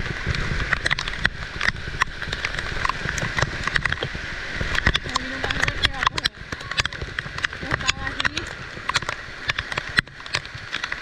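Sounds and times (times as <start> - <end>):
heavy rain rushing: 0.0 - 11.0
raindrops tapping close by: 0.0 - 11.0.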